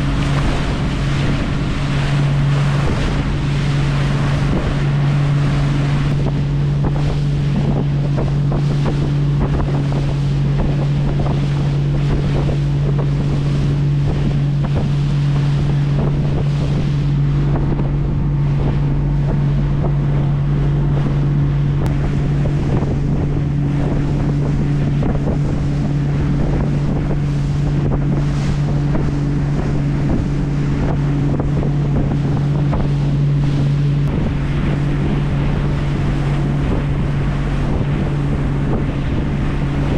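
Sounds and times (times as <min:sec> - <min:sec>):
boat engine humming: 0:00.0 - 0:39.9
water washing: 0:00.0 - 0:39.9
wind on microphone: 0:00.0 - 0:39.9.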